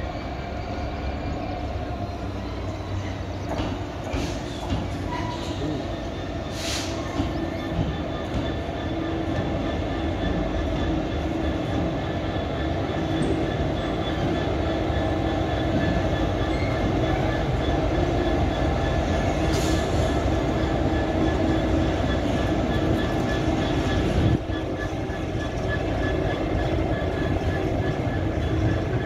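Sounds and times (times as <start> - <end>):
diesel locomotive engine hum: 0.0 - 29.0.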